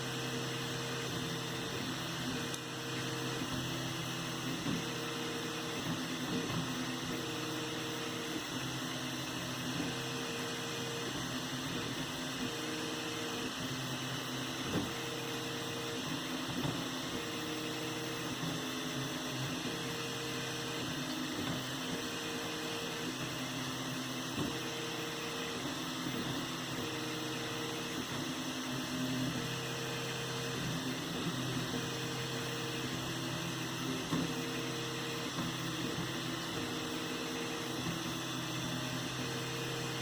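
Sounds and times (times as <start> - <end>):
stepper motors humming tones: 0.0 - 40.0.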